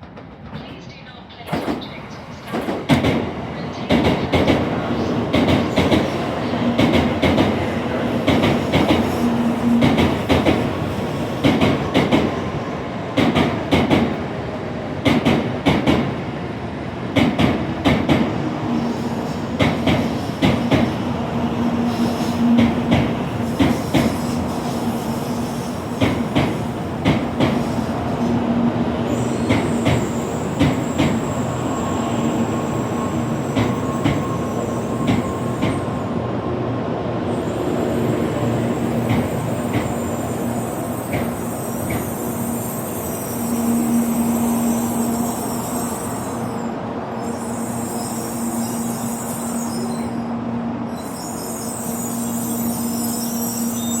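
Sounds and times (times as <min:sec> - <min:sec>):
train rumbling and humming: 0:00.0 - 0:54.0.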